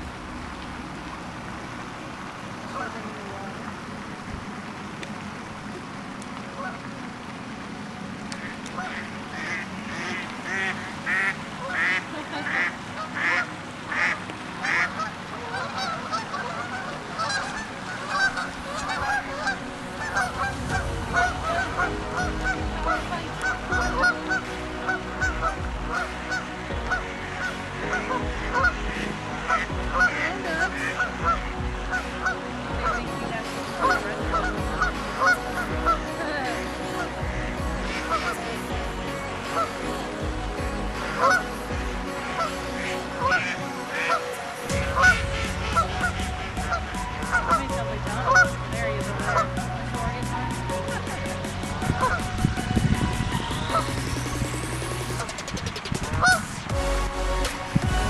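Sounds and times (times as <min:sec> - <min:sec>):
low rumble: 0:00.0 - 0:10.5, 0:16.4 - 0:43.8, 0:44.7 - 0:58.0
geese honking: 0:02.6 - 0:03.6, 0:06.4 - 0:06.9, 0:08.2 - 0:58.0.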